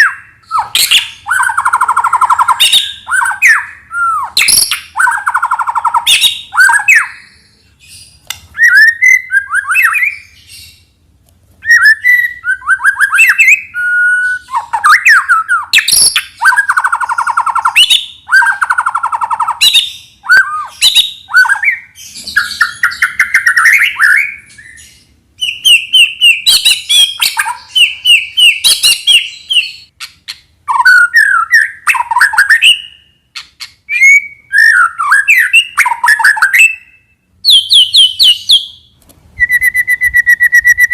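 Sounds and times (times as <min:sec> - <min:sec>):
songbird singing varied song: 0:00.0 - 0:11.0, 0:11.6 - 0:40.9.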